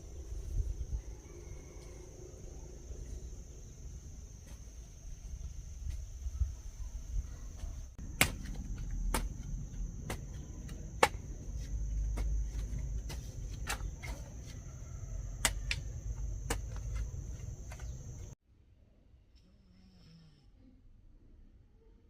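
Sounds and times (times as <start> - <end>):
insects trilling: 0.0 - 18.4.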